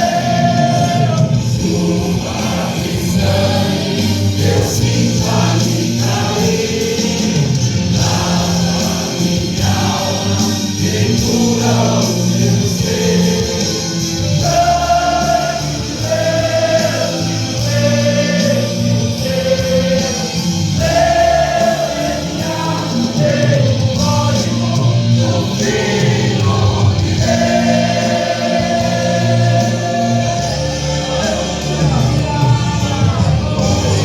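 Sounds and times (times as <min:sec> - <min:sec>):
choir singing held notes: 0:00.0 - 0:34.0
gospel band accompaniment: 0:00.0 - 0:34.0.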